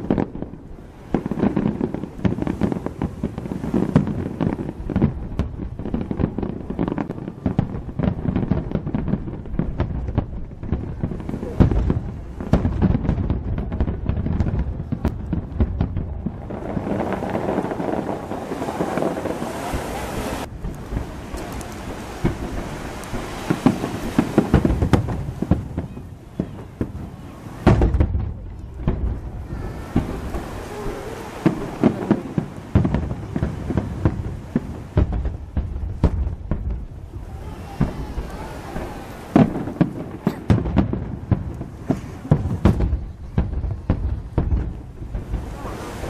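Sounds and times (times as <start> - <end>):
firework bangs: 0.0 - 46.0
firework crackling hiss: 0.0 - 46.0
rolling rumble: 0.0 - 46.0.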